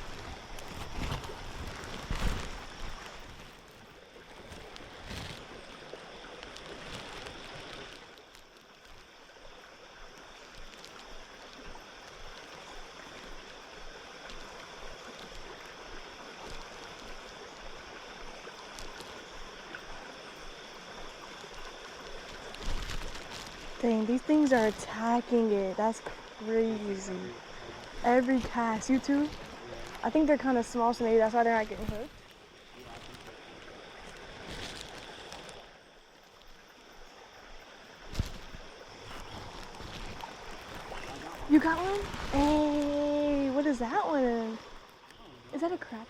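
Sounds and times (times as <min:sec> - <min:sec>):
creek water flowing: 0:00.0 - 0:46.0.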